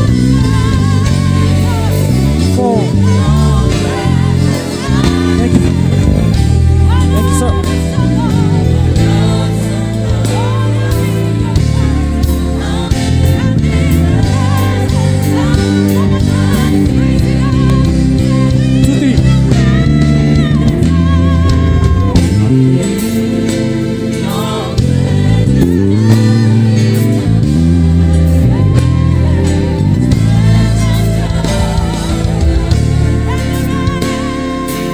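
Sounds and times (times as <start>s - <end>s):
bass line: 0.0s - 34.9s
gospel worship music: 0.0s - 34.9s.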